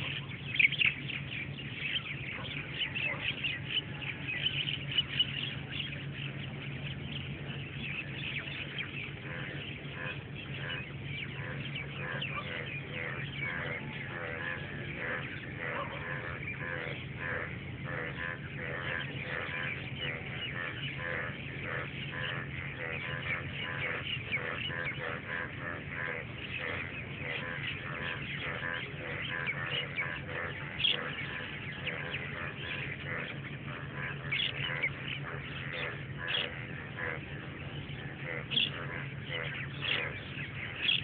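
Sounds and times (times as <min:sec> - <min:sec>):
birds chirping: 0:00.0 - 0:41.0
low hum: 0:00.0 - 0:41.0.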